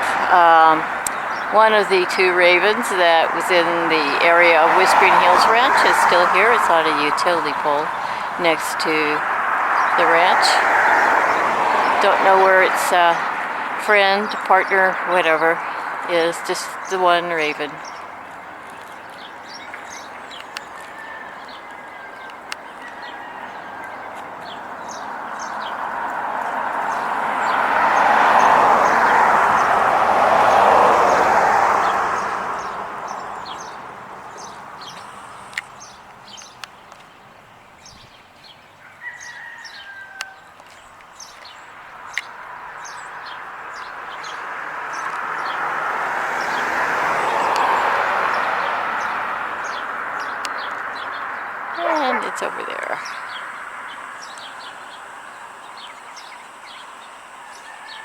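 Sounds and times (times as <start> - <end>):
small birds chirping: 0.0 - 29.8, 30.4 - 45.8, 46.4 - 58.0.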